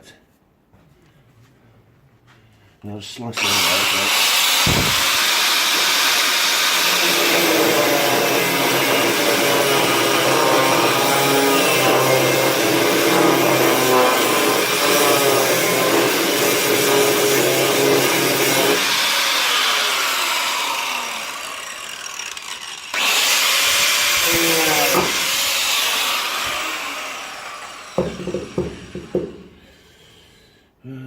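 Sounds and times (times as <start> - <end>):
angle grinder cutting steel: 3.4 - 29.2.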